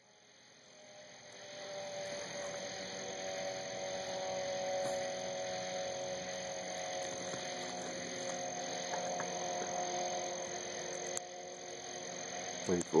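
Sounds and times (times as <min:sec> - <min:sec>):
toad calling: 0:02.0 - 0:13.0.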